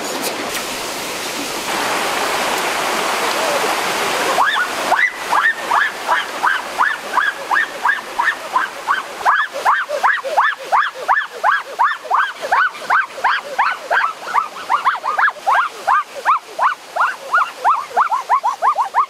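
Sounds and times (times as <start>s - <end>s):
stream noise: 0.0s - 19.0s.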